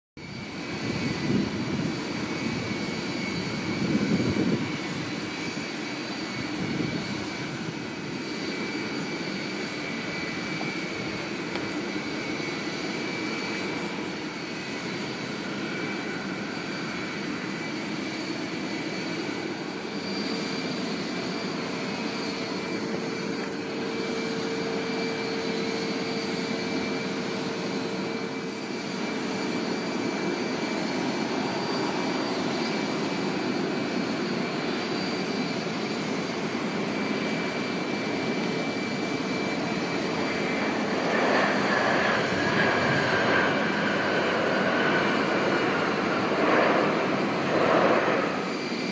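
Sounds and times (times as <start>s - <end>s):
jet engines whining: 0.2s - 48.9s.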